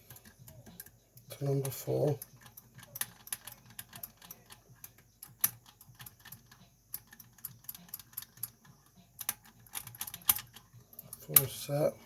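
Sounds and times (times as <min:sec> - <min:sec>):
metallic lock picking clicks: 0:00.0 - 0:11.5.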